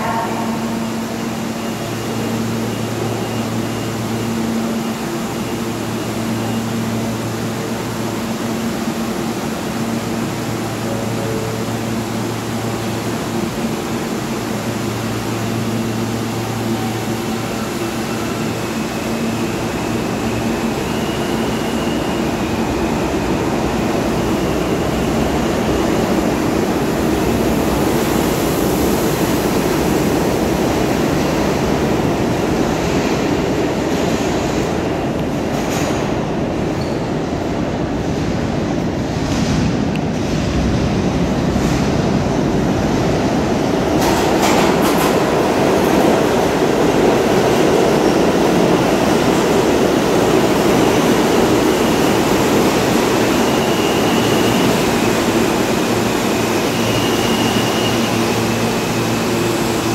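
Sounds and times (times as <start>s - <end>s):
electrical hum of train: 0.0s - 59.9s
subway train rumbling: 0.0s - 59.9s.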